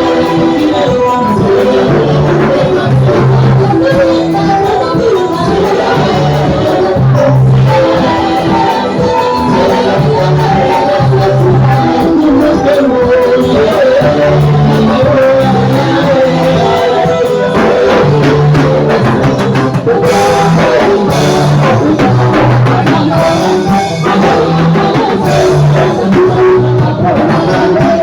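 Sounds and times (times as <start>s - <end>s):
bass line: 0.0s - 28.0s
drum kit: 0.0s - 28.0s
guitar: 0.0s - 28.0s
voices singing: 0.0s - 28.0s.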